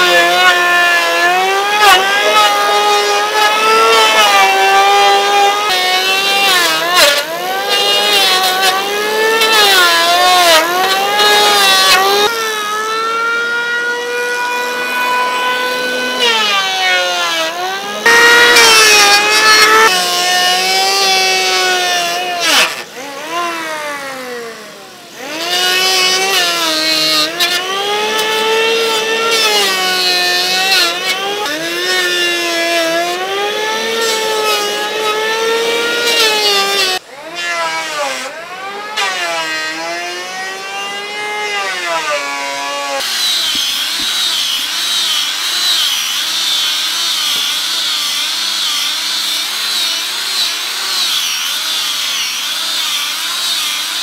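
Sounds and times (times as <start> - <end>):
electric planer shaving wood: 0.0 - 54.0.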